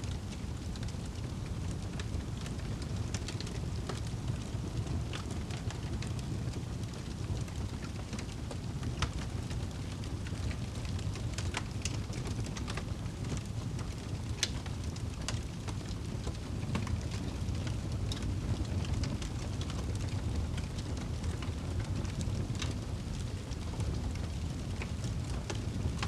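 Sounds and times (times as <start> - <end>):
low rumble of burning wood: 0.0 - 26.0
campfire crackling and popping: 0.1 - 26.0.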